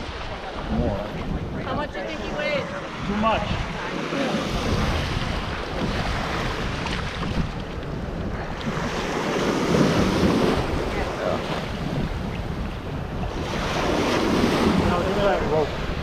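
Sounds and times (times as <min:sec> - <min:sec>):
ocean surf washing: 0:00.0 - 0:16.0
wind on microphone: 0:00.0 - 0:16.0.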